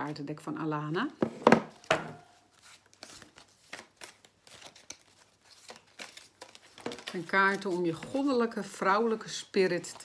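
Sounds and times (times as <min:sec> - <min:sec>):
cards rustling and clicking: 0:01.7 - 0:10.0.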